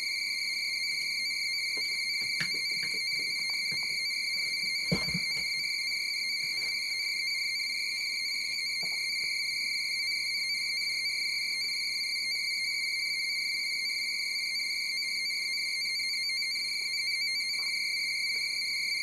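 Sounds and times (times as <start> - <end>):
high radio data tone: 0.0 - 19.0.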